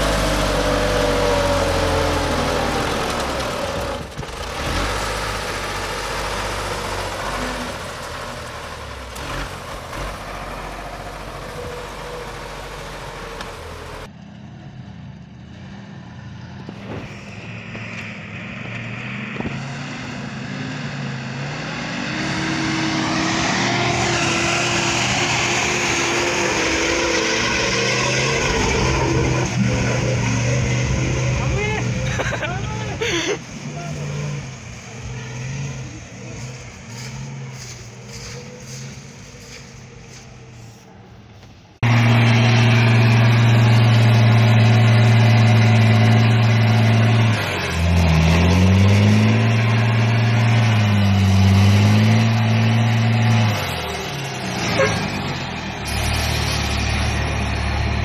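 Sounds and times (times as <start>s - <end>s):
truck engine pulling through mud: 0.0s - 14.1s, 16.7s - 41.1s, 41.8s - 58.0s
tractor diesel engine running: 0.0s - 15.4s, 22.2s - 58.0s.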